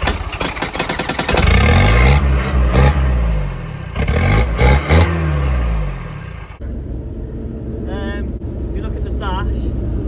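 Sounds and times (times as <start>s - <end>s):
car engine revving: 0.5s - 10.0s.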